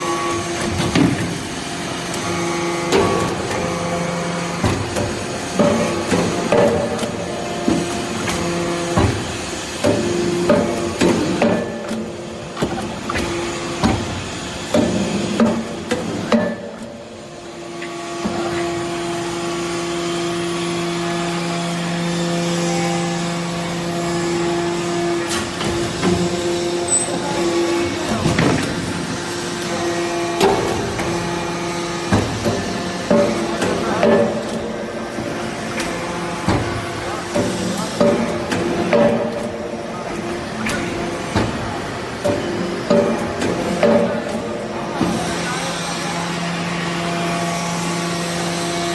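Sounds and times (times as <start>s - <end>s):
hydraulic power unit hum: 0.0s - 48.9s.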